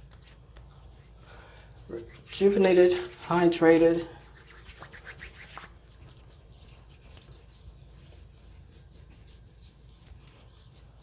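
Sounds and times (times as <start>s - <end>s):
hands rubbing lather on skin: 0.0s - 10.9s.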